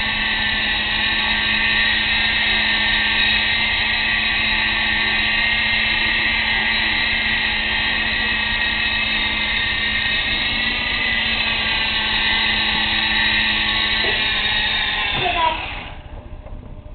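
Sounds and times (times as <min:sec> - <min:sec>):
rc helicopter motor whine: 0:00.0 - 0:16.9
steady low hum: 0:00.0 - 0:16.9.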